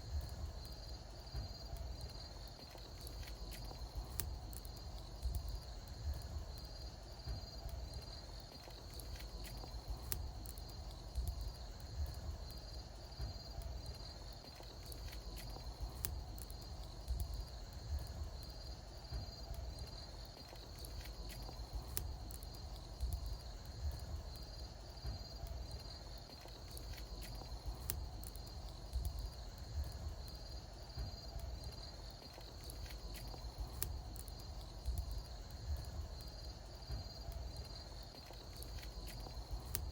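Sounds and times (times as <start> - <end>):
bonfire crackling and popping: 0.0 - 39.9
insects chirping: 0.0 - 39.9.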